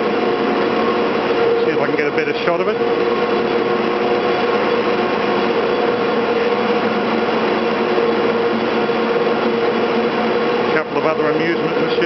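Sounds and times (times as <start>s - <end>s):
cable winding machinery hum: 0.0s - 12.0s.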